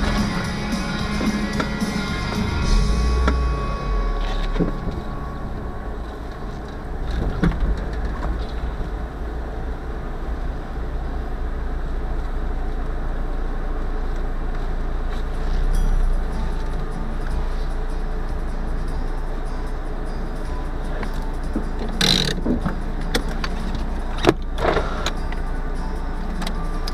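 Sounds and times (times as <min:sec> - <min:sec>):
car engine running: 0:00.0 - 0:26.9
road and tyre noise: 0:00.0 - 0:26.9.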